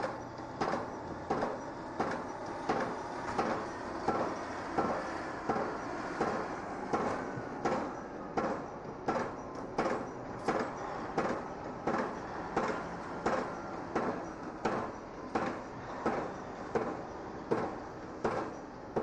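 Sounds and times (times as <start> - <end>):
pile driver hammering: 0.0 - 19.0
steady background noise: 0.0 - 19.0.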